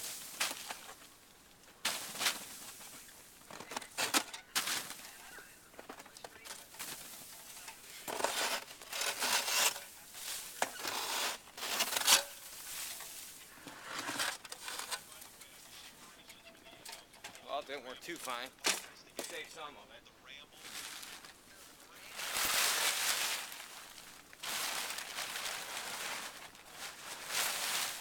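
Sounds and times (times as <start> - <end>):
snow sliding onto plastic tarp: 0.0 - 1.0, 1.8 - 16.2, 20.5 - 28.0
tarp dragging and crinkling: 0.0 - 1.2, 1.8 - 19.5, 20.5 - 28.0.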